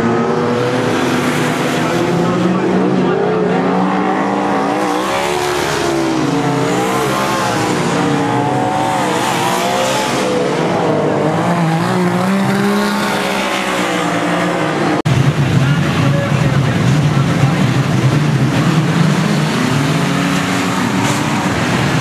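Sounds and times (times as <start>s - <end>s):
rough engine sound: 0.0s - 22.0s
stockcar engines racing: 0.0s - 22.0s
tyre and exhaust noise: 0.0s - 22.0s.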